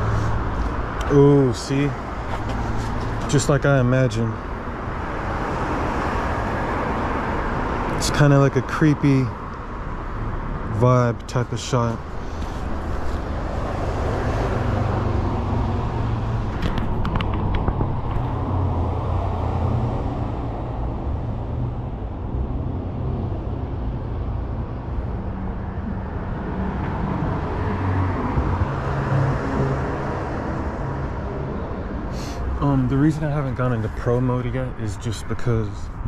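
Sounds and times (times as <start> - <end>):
cars driving past: 0.0 - 36.0.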